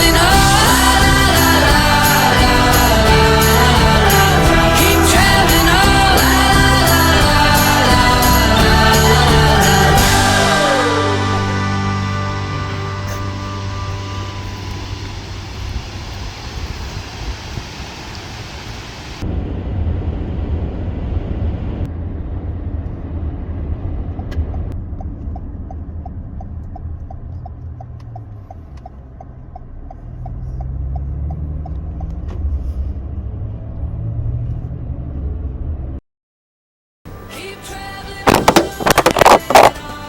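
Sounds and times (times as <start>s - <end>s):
car rumbling on the road: 0.0s - 36.0s, 38.3s - 39.8s.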